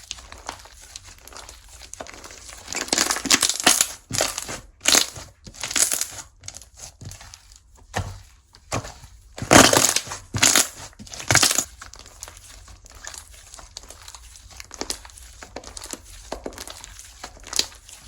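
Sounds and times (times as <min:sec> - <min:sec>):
slime crackling and popping: 0:00.0 - 0:06.8, 0:09.4 - 0:17.8.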